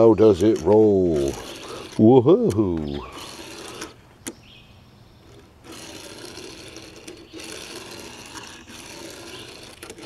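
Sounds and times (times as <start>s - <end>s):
toy car wheels rolling on table: 0.0s - 4.0s, 5.2s - 10.0s.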